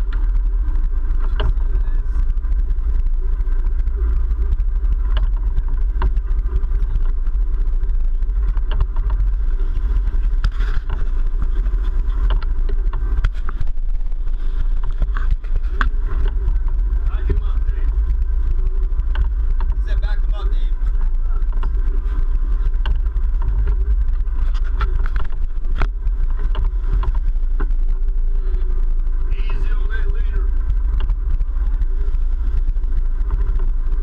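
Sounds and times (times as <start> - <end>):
boat engines rumbling: 0.0 - 34.0.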